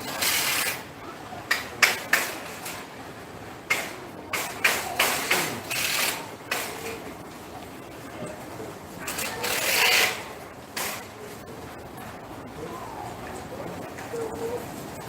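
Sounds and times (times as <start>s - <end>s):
shopping trolleys clanking: 0.0s - 12.2s.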